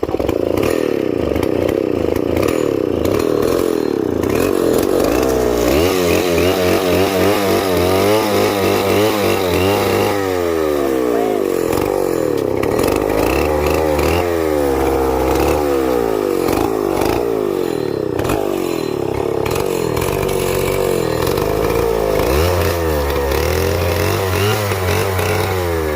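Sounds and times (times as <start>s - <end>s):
chainsaw engine running hard: 0.0s - 25.9s.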